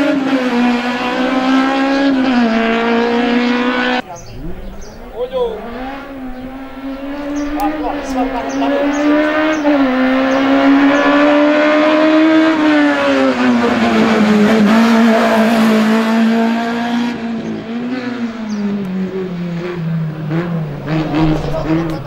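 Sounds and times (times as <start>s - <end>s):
race car engine under hard throttle: 0.0s - 22.0s.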